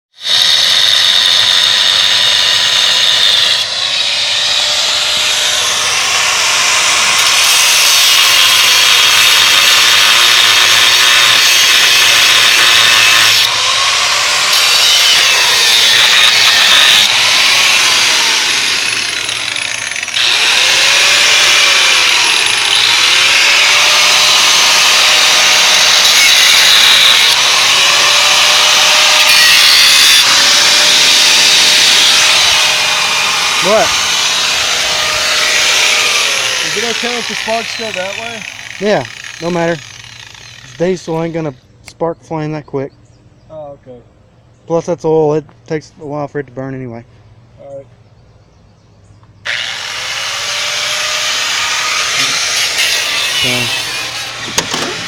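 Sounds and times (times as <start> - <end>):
cut-off wheel grinding steel: 0.2 - 41.4, 49.4 - 55.0.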